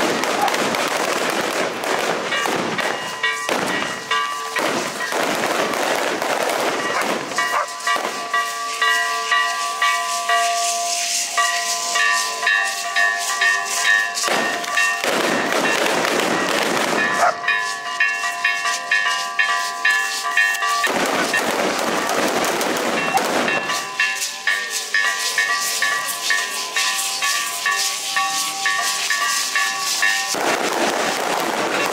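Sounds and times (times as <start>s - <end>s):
firecrackers crackling: 0.0s - 31.9s
hand bells clanging: 2.2s - 30.4s.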